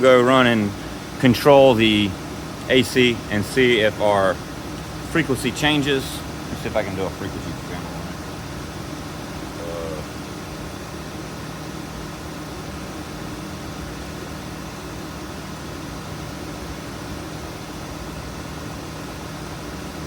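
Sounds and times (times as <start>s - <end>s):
fan hum: 0.0s - 20.0s.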